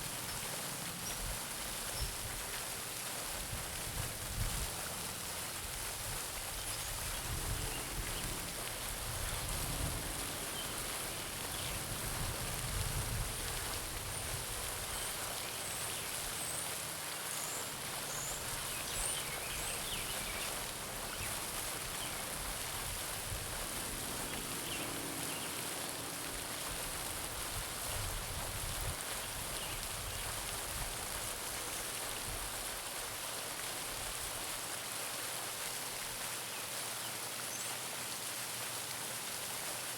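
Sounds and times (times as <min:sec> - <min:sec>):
fountain splashing into water: 0:00.0 - 0:39.9.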